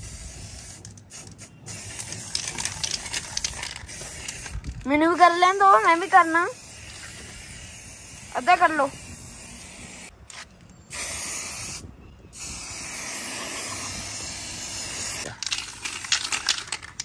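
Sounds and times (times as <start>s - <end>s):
spray paint can hissing: 0.0s - 10.1s, 10.9s - 17.0s.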